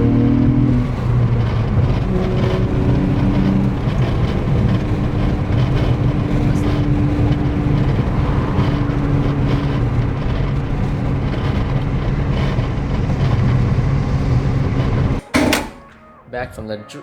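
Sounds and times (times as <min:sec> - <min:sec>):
car engine drone: 0:00.0 - 0:16.9
road noise: 0:00.0 - 0:17.0.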